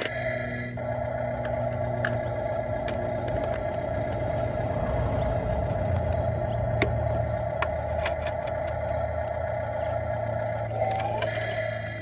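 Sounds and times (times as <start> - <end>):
toy truck engine humming: 0.0 - 12.0.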